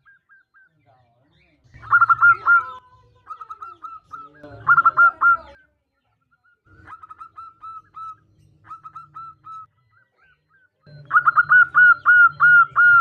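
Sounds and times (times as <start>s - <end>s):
dove cooing: 1.8s - 5.7s, 6.4s - 13.0s.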